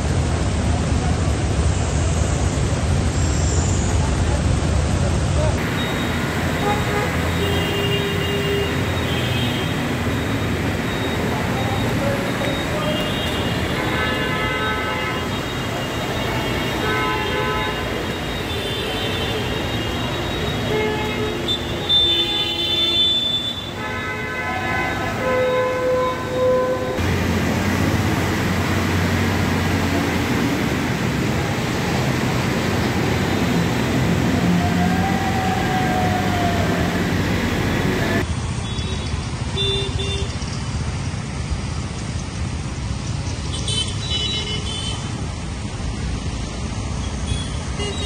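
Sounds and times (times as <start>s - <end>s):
heavy rain hiss: 0.0s - 48.0s
traffic engine rumble: 0.0s - 48.0s
vehicles driving through water: 0.0s - 48.0s.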